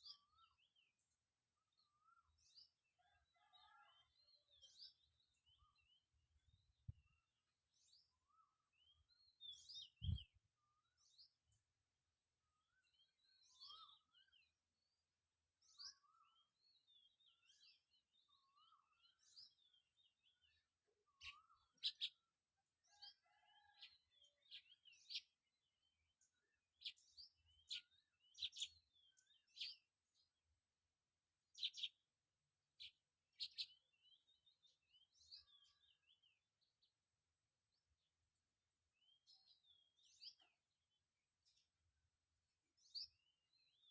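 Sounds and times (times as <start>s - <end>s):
faint birdsong: 0.0s - 43.9s.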